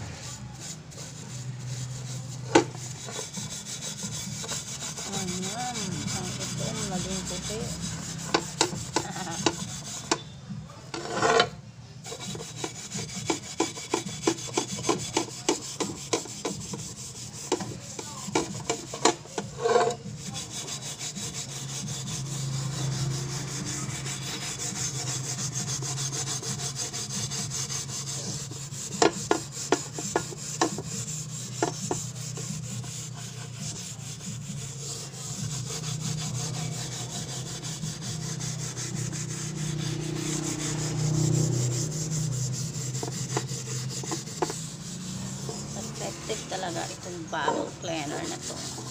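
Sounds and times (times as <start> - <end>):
scrubber rubbing a metal pan: 0.0 - 48.9.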